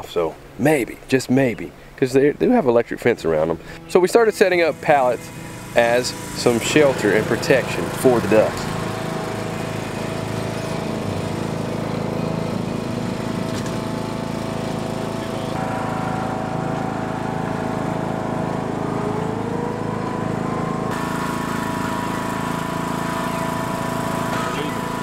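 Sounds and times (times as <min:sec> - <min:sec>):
lawn tractor engine running: 0:03.3 - 0:25.0.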